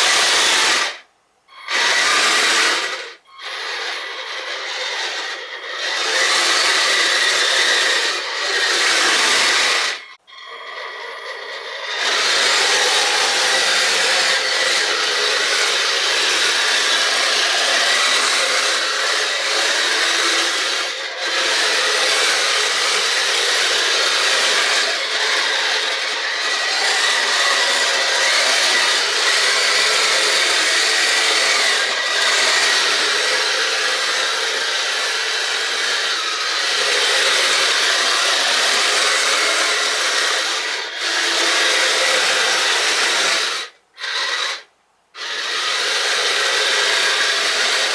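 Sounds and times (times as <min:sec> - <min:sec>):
toy tracked vehicle whirring: 0:00.0 - 0:47.9.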